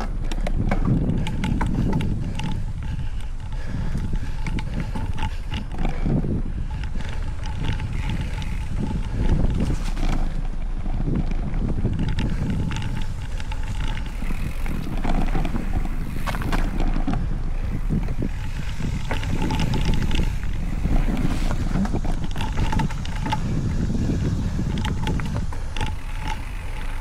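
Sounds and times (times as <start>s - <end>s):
bike rumble and rattle: 0.0s - 27.0s
wind on microphone: 0.0s - 27.0s.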